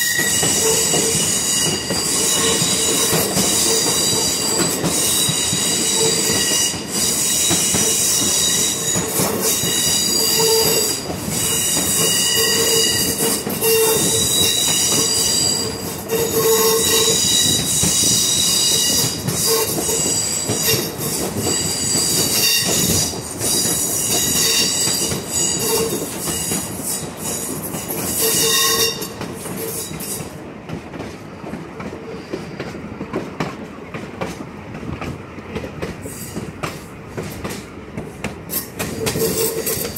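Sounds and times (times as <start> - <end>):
train wheels squealing on rails: 0.0 - 34.4, 35.0 - 39.9
train cars rolling rumble: 0.0 - 39.9.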